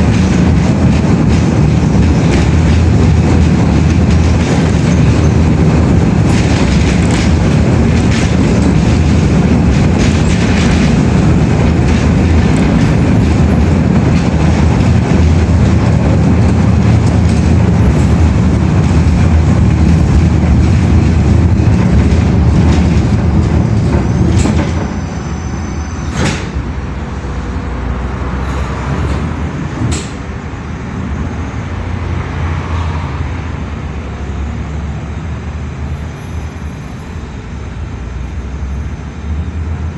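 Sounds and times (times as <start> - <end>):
heavy vehicle rumbling: 0.0 - 39.9.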